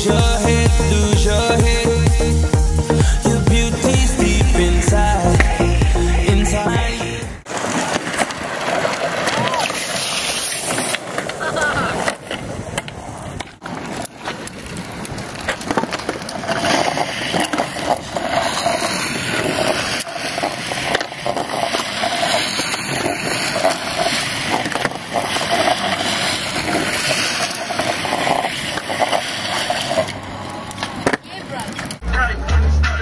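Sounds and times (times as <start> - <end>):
plastic wheels grinding on asphalt: 0.0 - 32.0.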